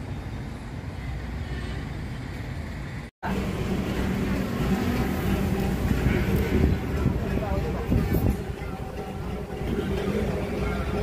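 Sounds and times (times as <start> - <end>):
boat engine rumbling: 1.3 - 11.0.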